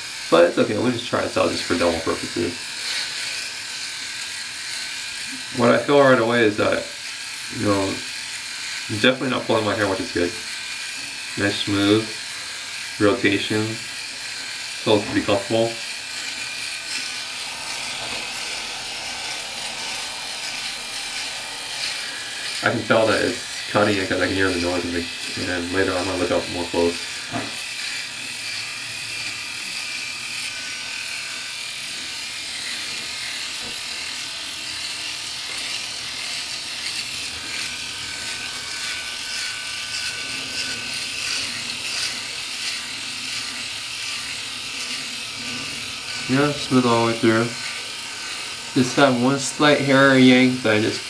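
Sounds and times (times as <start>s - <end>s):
electric shaver running: 0.0s - 51.0s.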